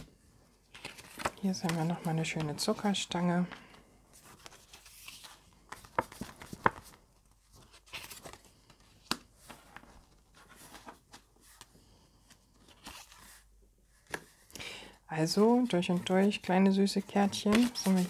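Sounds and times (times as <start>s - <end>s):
cards rustling against each other: 0.6s - 14.5s, 15.4s - 18.0s.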